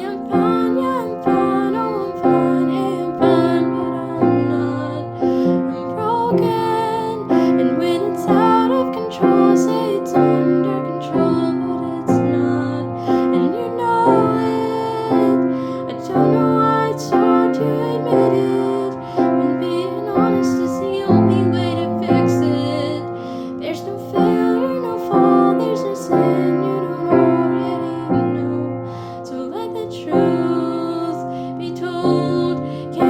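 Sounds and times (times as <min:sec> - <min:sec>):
piano chords: 0:00.0 - 0:33.0
woman singing wordless lines: 0:00.0 - 0:33.0.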